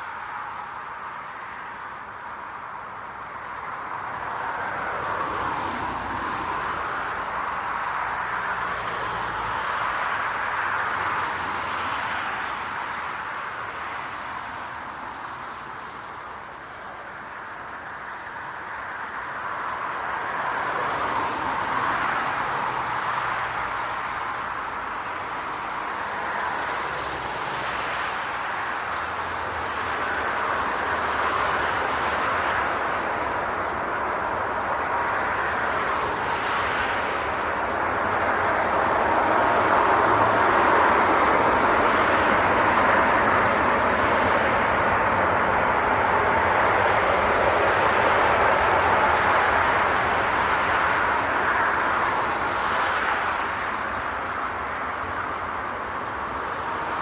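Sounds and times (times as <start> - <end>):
jet engines rushing with whine: 0.0 - 57.0.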